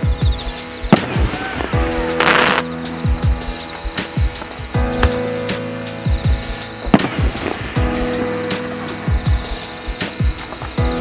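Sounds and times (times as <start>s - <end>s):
booming bass drum hits: 0.0s - 8.2s, 9.1s - 11.0s
sustained synth chords: 0.0s - 11.0s.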